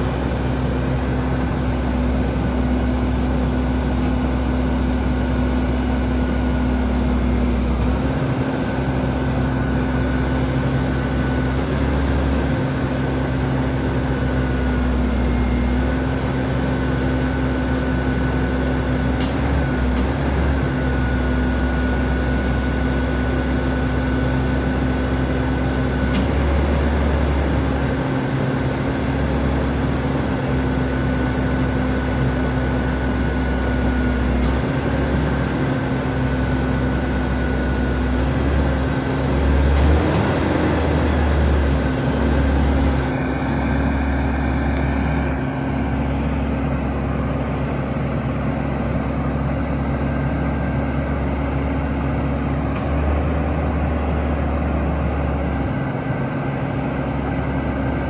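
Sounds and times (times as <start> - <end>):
garbage truck engine hum: 0.0 - 58.0
hydraulic whine: 0.0 - 58.0.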